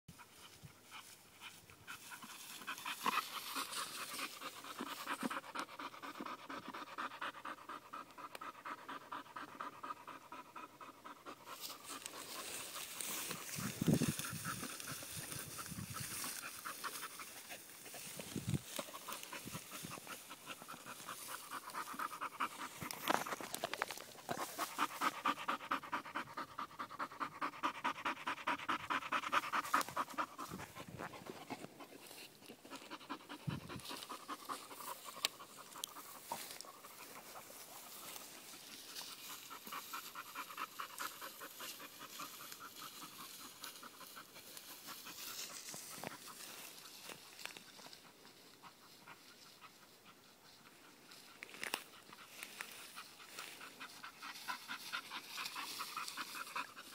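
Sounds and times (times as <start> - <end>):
dog panting fast: 0.2 - 51.3, 51.9 - 56.9.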